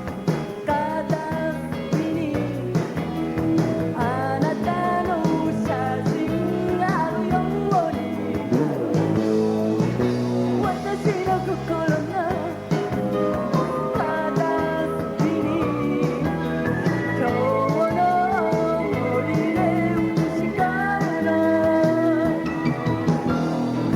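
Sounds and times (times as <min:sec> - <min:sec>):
pop-rock band playing: 0:00.0 - 0:23.9
female vocal singing: 0:00.7 - 0:08.9, 0:10.6 - 0:22.5.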